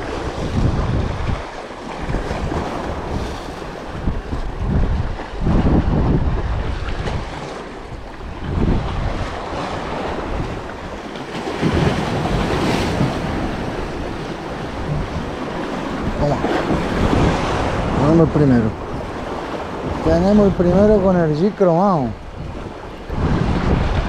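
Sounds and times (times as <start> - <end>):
surf breaking on shore: 0.0 - 24.0
wind buffeting microphone: 0.0 - 24.0.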